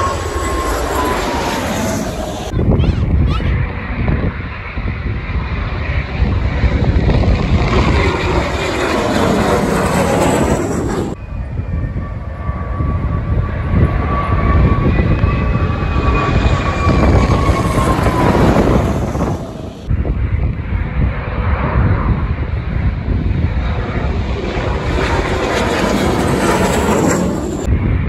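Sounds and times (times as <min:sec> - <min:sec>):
high turbine whine: 0:00.0 - 0:28.0
military aircraft engines passing: 0:00.0 - 0:28.0.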